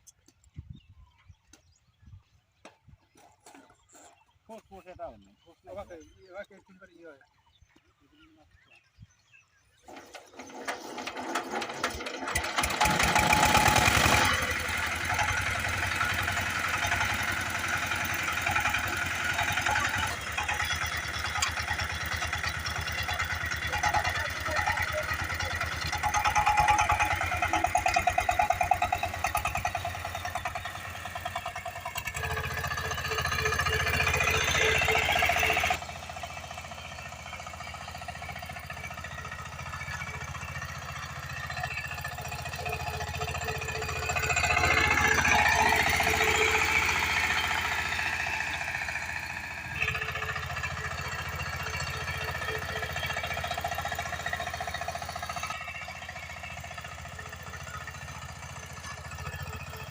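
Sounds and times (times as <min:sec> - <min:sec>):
diesel engine chugging: 0:09.6 - 0:59.9.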